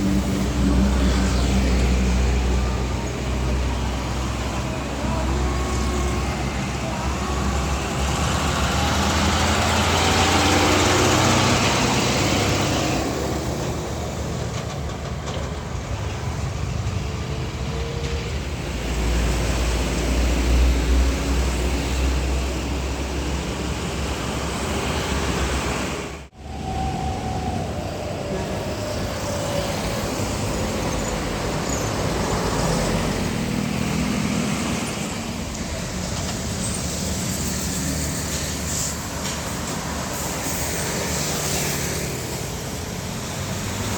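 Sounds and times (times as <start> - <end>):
trucks and traffic passing: 0.0 - 43.9.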